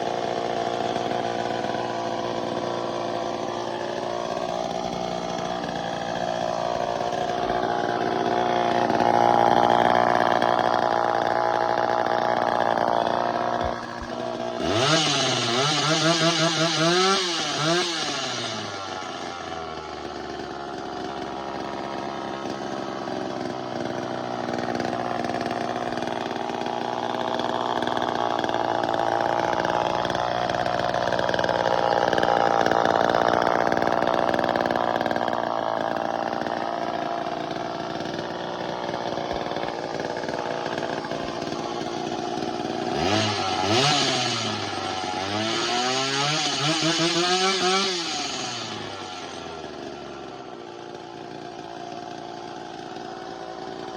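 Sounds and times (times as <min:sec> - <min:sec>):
chainsaw engine running and revving: 0:00.0 - 0:53.9.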